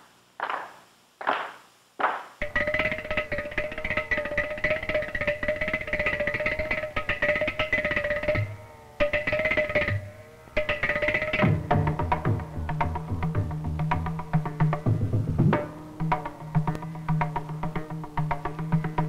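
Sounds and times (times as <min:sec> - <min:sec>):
fast plucked rhythm: 0:02.4 - 0:19.0.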